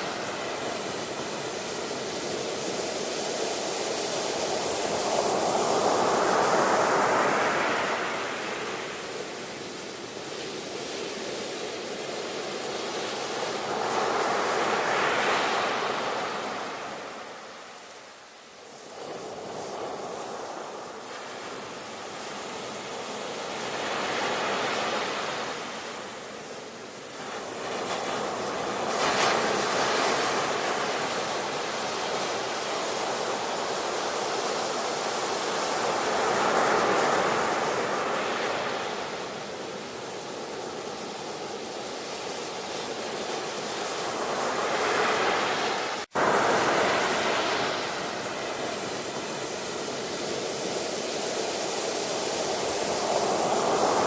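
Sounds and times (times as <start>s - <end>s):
waves breaking and washing ashore: 0.0s - 54.0s.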